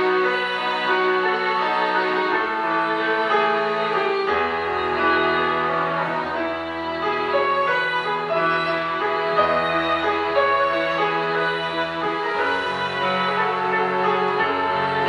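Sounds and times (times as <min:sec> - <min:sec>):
violin-like string melody: 0:00.0 - 0:15.0.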